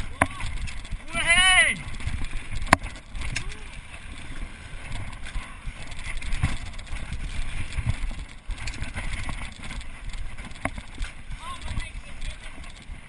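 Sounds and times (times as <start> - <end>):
bike knocks and rattles: 0.0 - 13.0
bike tyres on gravel trail: 0.0 - 13.0
wind on microphone: 0.0 - 13.0.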